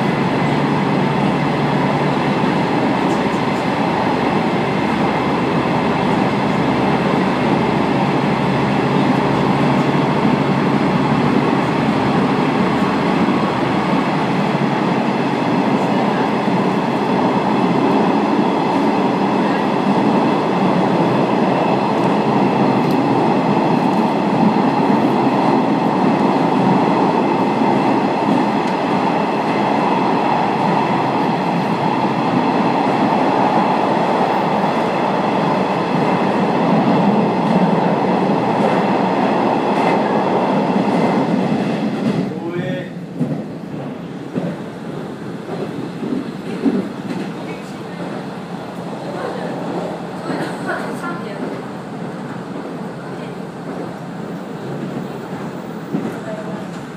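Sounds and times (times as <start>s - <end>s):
train rumbling on rails: 0.0s - 56.9s.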